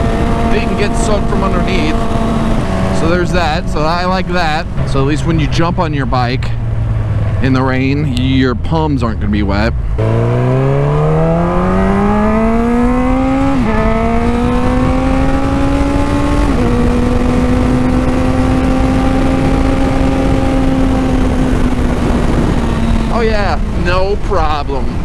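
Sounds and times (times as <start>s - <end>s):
wind rushing: 0.0s - 7.4s, 9.7s - 24.2s
motorcycle engine accelerating: 0.0s - 25.0s.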